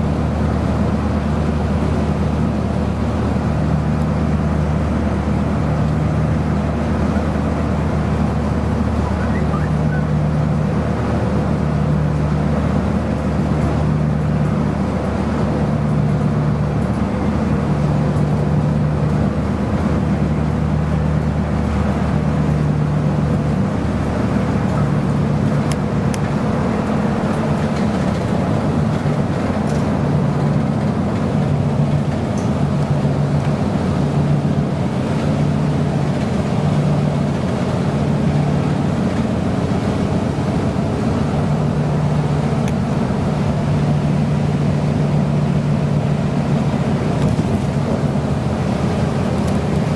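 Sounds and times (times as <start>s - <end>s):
bus engine drone: 0.0s - 49.9s
road and tyre rumble: 0.0s - 49.9s.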